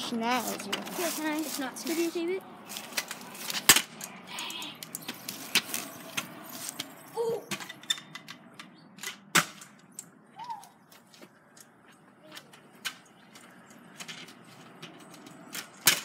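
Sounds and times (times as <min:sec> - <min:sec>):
scooter wheels clacking: 0:00.0 - 0:16.0.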